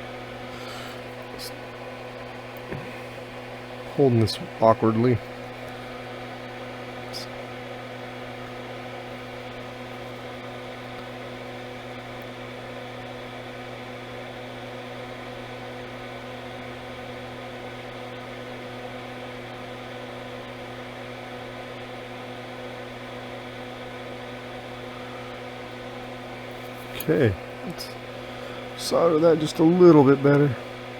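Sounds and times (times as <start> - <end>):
electrical hum: 0.0 - 30.9
fan whir: 0.0 - 30.9.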